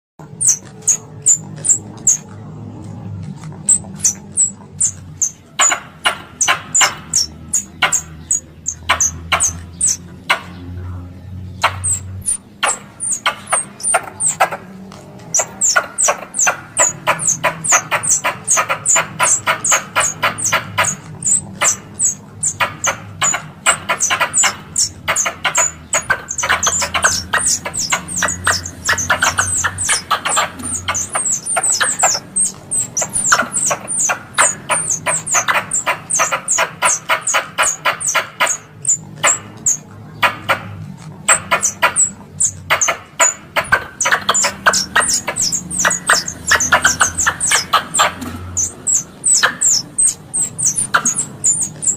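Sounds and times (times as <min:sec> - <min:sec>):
squirrel call chatter: 0:00.2 - 0:02.5, 0:03.1 - 0:51.9.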